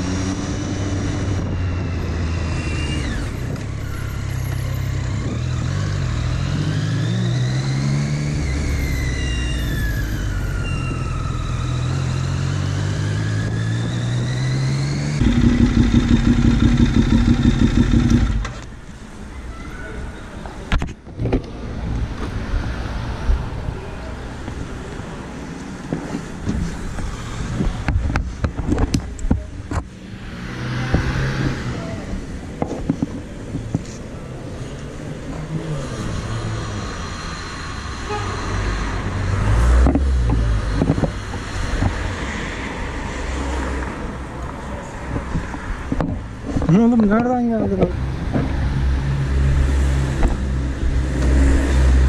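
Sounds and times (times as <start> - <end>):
street traffic rumble: 0.0 - 52.0.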